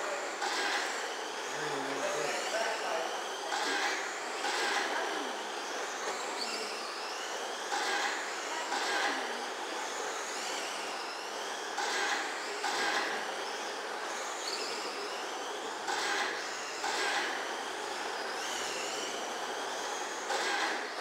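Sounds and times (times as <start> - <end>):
high-pitched motor whine: 0.0 - 21.0.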